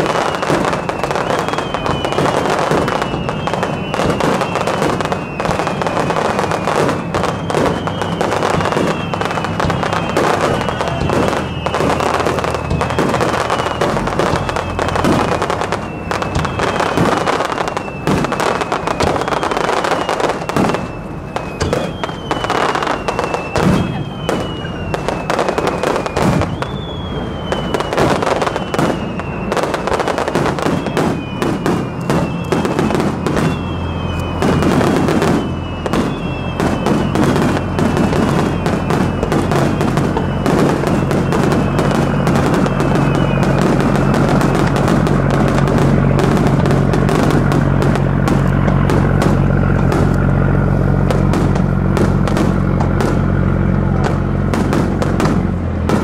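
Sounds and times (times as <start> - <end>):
fireworks bangs and crackling: 0.0 - 56.0
fireworks whistling: 0.0 - 56.0.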